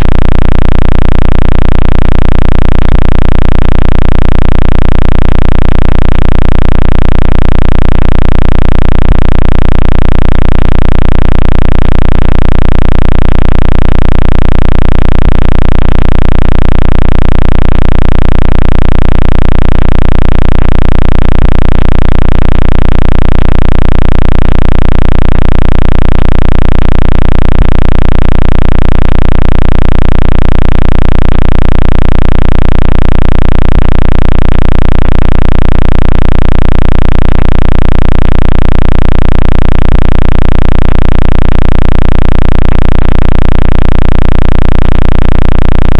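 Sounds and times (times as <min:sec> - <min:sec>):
loud low pulsing buzz tone: 0:00.0 - 0:45.9.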